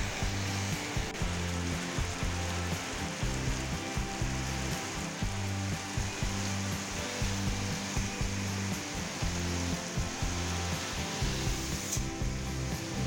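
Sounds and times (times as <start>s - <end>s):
background music with beat: 0.0s - 13.0s
heavy rain pouring: 0.0s - 13.0s.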